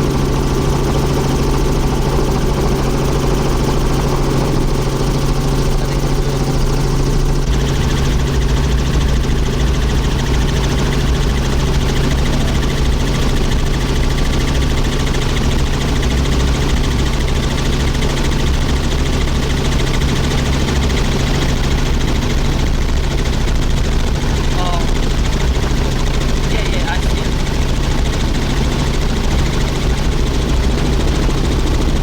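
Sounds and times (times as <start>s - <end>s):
helicopter rotor and turbine drone: 0.0s - 32.0s.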